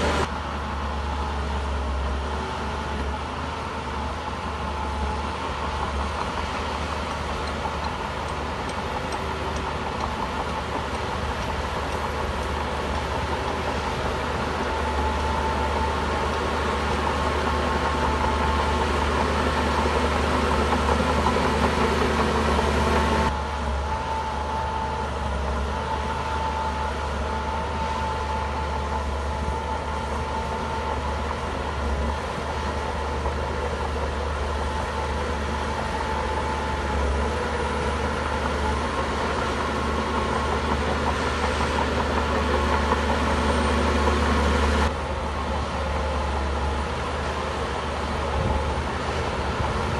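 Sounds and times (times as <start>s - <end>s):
bulldozer diesel engine droning: 0.0s - 49.9s.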